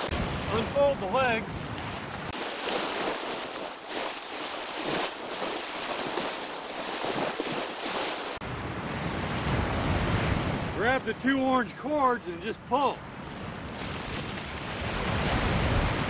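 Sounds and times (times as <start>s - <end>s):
wind on microphone: 0.0s - 4.1s, 4.7s - 10.8s, 13.0s - 16.0s
ocean surf: 0.0s - 16.0s.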